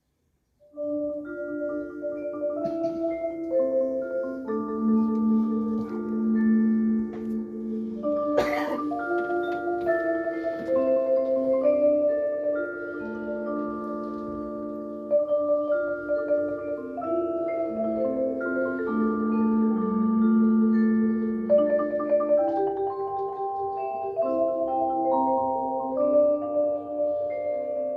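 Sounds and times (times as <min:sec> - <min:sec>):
marimbas playing rolled chords: 0:00.8 - 0:27.9.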